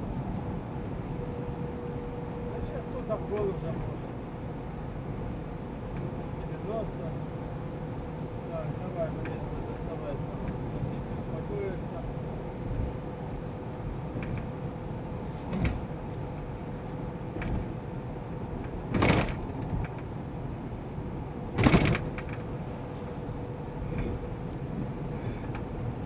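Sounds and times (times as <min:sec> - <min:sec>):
van road and engine noise: 0:00.0 - 0:26.0.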